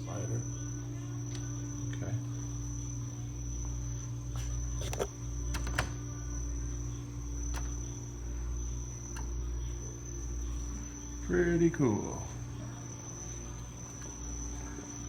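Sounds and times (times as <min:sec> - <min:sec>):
high steady whine: 0:00.0 - 0:15.0
low electrical drone: 0:00.0 - 0:15.0.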